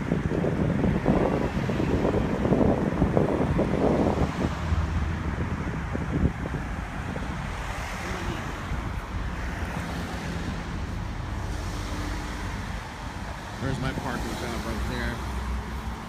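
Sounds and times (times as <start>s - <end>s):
road traffic hum: 0.0s - 16.0s
wind buffeting microphone: 0.0s - 16.0s.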